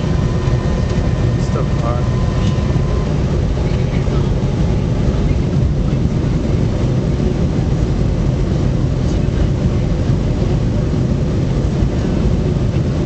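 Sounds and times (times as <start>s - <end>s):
jet engine noise in plane cabin: 0.0s - 13.0s.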